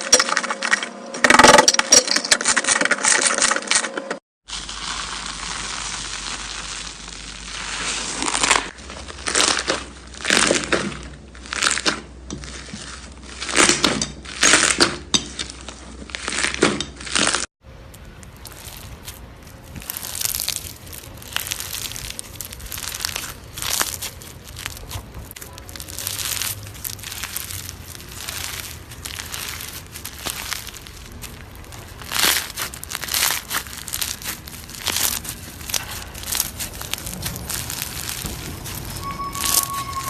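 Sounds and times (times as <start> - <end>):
slime crackling: 4.5 - 14.8, 15.5 - 40.0
slime squishing by hand: 4.5 - 40.0.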